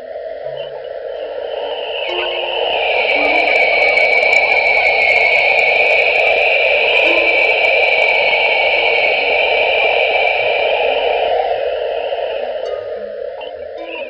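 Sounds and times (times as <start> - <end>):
static-like hissing wash: 0.0 - 14.0.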